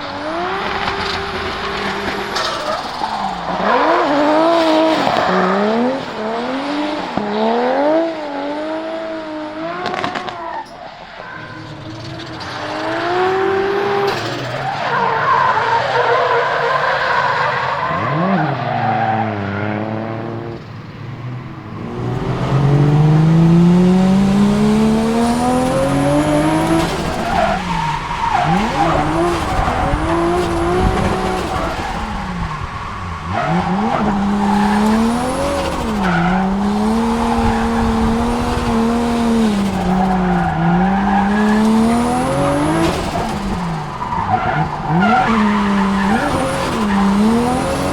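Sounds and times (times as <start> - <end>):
car engine revving: 0.0 - 47.9
tyres skidding and squealing: 0.0 - 47.9.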